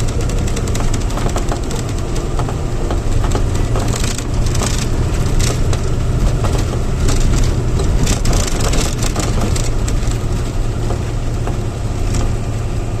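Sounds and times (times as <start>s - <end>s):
crackling and rattling: 0.0s - 13.0s
truck engine rumbling: 0.0s - 13.0s.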